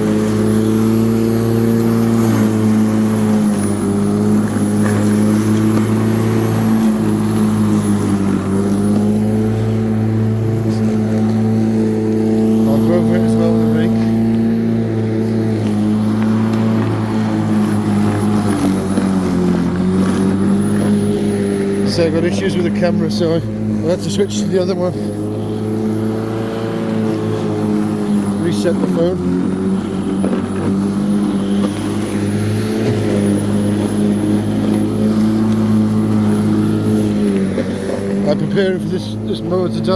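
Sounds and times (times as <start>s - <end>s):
electric lawnmower running: 0.0s - 39.9s.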